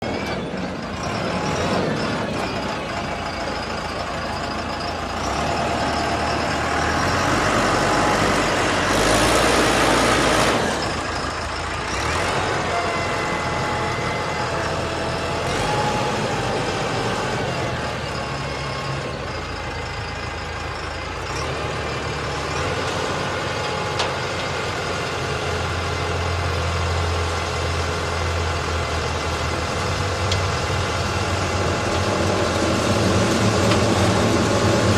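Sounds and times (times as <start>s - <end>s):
concrete mixer diesel engine: 0.0s - 34.9s.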